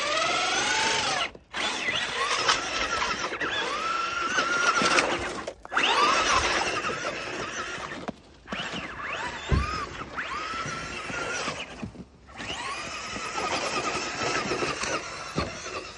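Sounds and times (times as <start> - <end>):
electric motor whining: 0.0 - 15.9
wheels churning through snow: 0.0 - 15.9.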